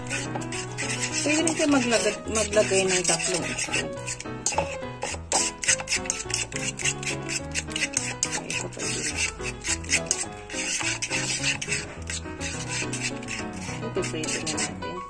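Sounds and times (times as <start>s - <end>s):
fork scraping plastic bowl: 0.0s - 14.8s
background music: 0.0s - 15.0s.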